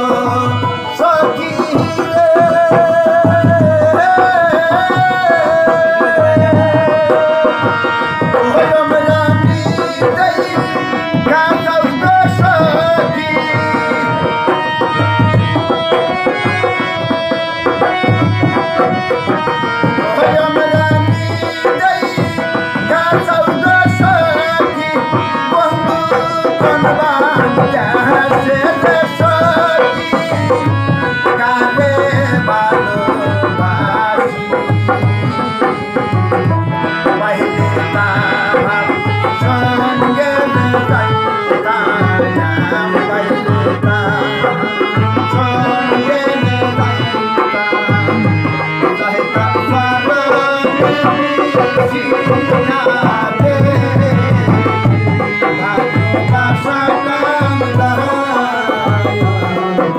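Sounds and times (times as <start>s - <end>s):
harmonium: 0.0s - 59.9s
long-necked string instrument: 0.0s - 59.9s
man singing: 0.0s - 59.9s.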